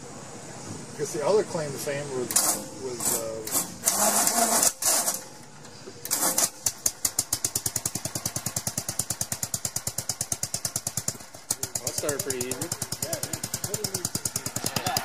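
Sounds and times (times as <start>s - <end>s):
engine running: 0.0s - 15.0s
engine being cranked: 2.3s - 5.4s, 6.0s - 15.0s.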